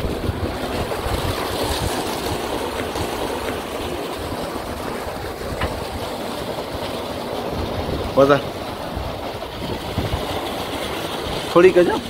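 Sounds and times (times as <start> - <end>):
water rushing through a pipe: 0.0 - 12.0
wind buffeting the microphone: 0.0 - 12.0.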